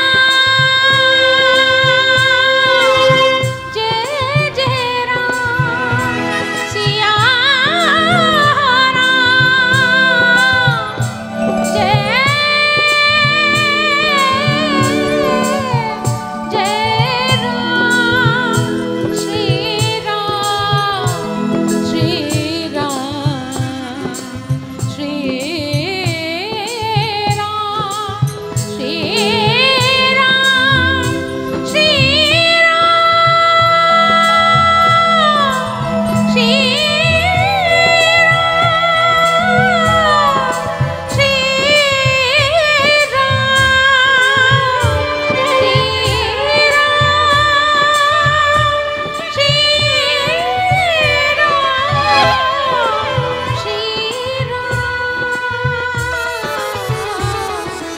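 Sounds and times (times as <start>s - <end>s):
live band steady beat: 0.0s - 57.9s
woman singing into a microphone: 0.0s - 57.9s.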